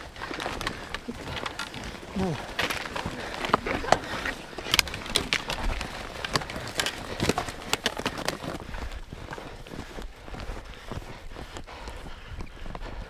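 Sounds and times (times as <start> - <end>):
ski boots clicking and knocking: 0.0 - 13.0.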